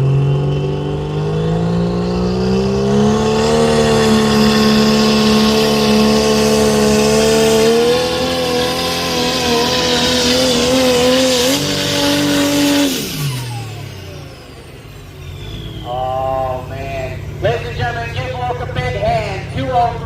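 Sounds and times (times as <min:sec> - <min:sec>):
truck engine at full throttle: 0:00.0 - 0:20.0.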